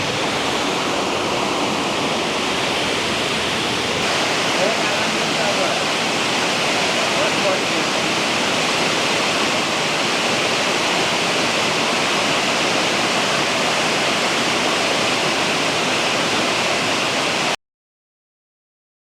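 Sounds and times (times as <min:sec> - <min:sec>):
river water rushing over rocks: 0:00.0 - 0:17.6.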